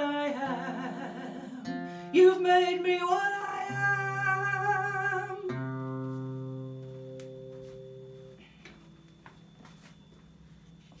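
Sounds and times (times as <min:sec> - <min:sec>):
strummed guitar chord ringing: 0:00.0 - 0:10.2.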